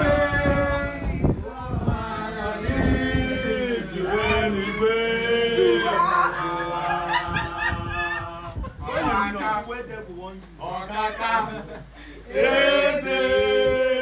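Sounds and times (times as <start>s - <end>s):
people singing unaccompanied: 0.0s - 9.7s, 10.8s - 14.0s.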